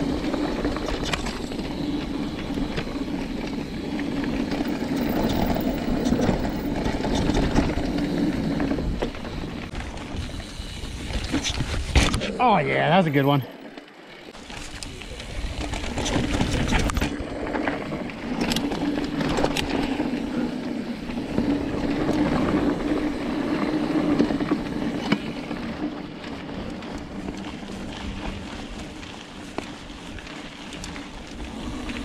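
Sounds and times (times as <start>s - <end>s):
bike rattling and clacking: 0.0s - 12.4s, 13.2s - 32.0s
wind rumbling on microphone: 0.0s - 12.5s, 14.3s - 32.0s
tyres humming on packed dirt: 0.0s - 32.0s.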